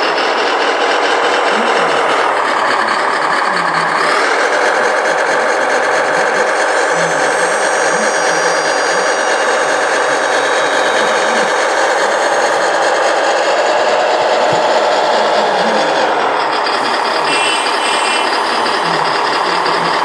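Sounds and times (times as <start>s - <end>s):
model truck motors whirring: 0.0s - 20.0s.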